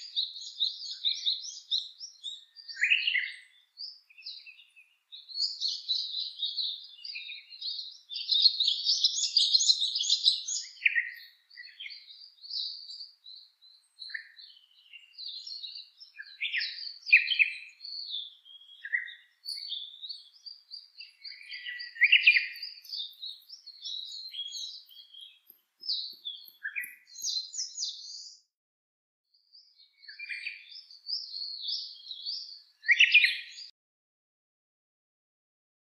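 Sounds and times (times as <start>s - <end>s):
songbirds chirping and singing: 0.0s - 28.4s, 29.5s - 33.7s.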